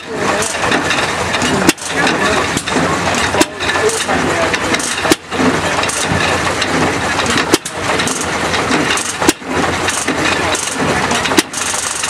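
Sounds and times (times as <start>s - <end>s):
machinery noise: 0.0s - 12.0s.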